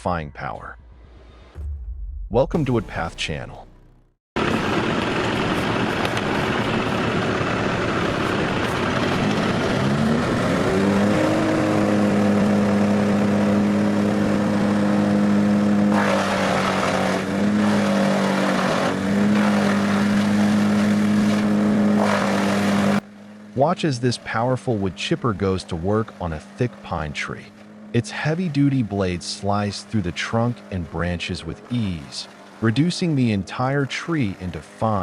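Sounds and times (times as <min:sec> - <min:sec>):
wood chipper running: 0:03.0 - 0:29.6, 0:30.4 - 0:33.4.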